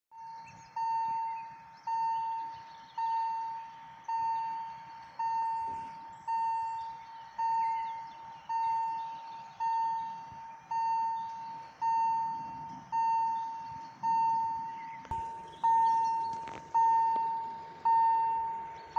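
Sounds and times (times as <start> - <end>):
level crossing warning bell: 0.2 - 18.9.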